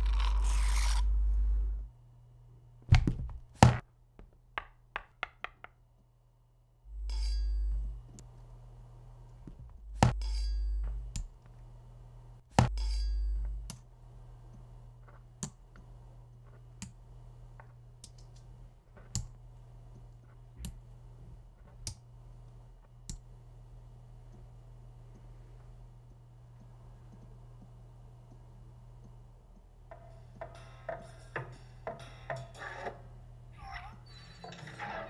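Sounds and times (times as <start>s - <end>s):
low hum: 0.0s - 3.1s, 6.1s - 34.6s.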